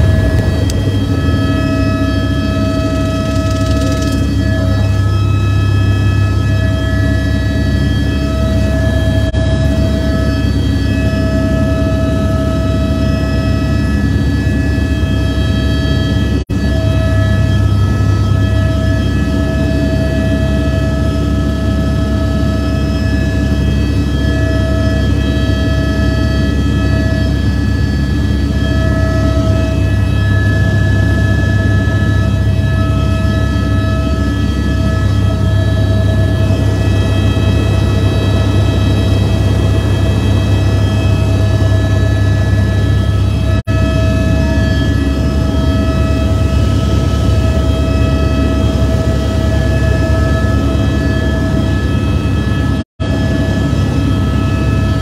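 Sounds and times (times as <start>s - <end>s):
helicopter engine and rotor drone: 0.0s - 55.0s
whining tones: 0.0s - 55.0s.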